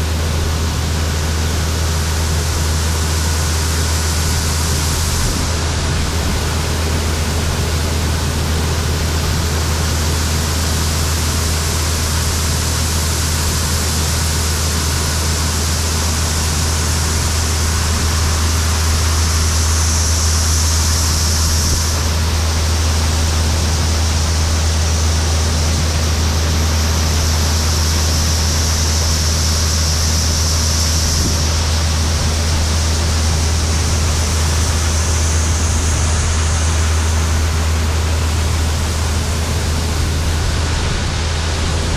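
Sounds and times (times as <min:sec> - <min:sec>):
combine engine hum: 0:00.0 - 0:41.9.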